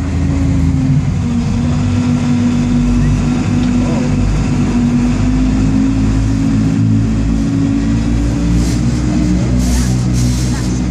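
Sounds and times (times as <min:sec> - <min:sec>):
vehicle engine droning: 0:00.0 - 0:10.9.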